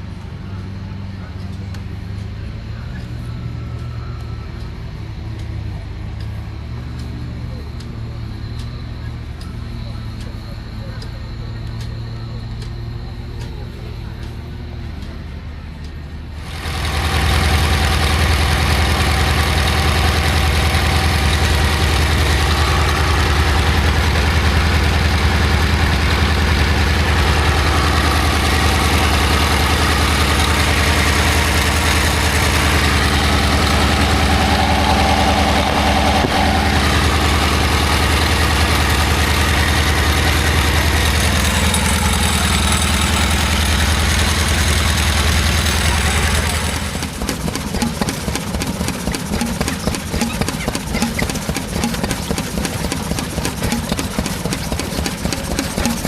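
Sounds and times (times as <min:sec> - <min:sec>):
stationary engine running: 0:00.0 - 0:56.0.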